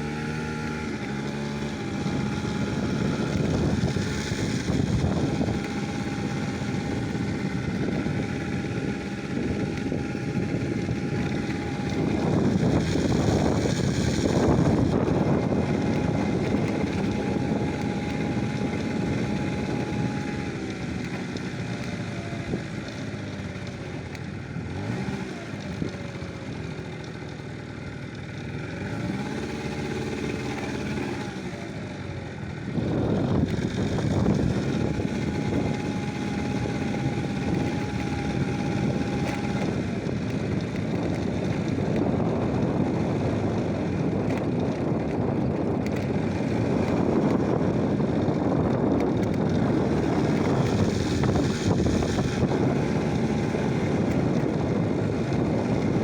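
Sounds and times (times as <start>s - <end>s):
steady rushing noise: 0.0s - 21.7s, 32.5s - 56.0s
engine running: 0.0s - 56.0s.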